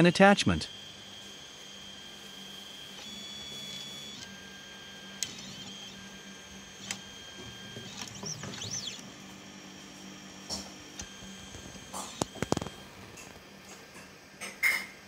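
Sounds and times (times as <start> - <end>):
stepper motors whining: 0.0 - 13.8.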